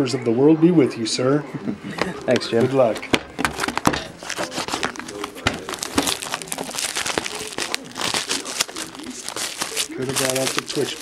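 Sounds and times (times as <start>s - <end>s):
plastic wrap tearing and crinkling: 2.2s - 11.0s.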